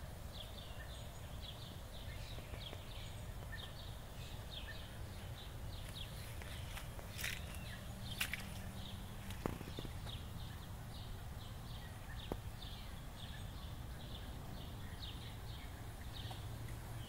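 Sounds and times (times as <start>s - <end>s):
small bird chirping: 0.3s - 17.0s.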